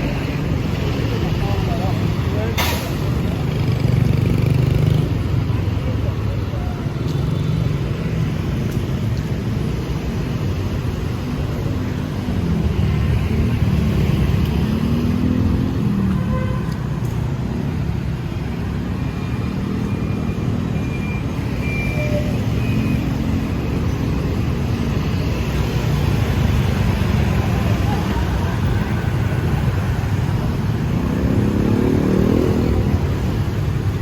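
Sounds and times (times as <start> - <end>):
street traffic passing: 0.0 - 34.0.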